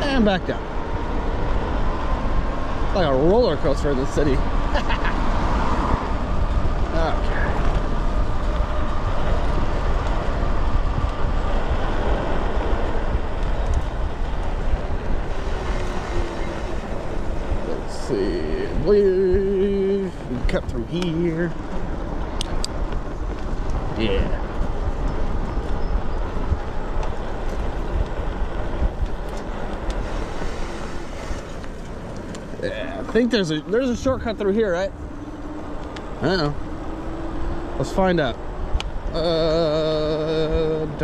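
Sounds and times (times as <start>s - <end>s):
bike rolling noise: 0.0s - 41.0s
wind buffeting microphone: 0.0s - 41.0s.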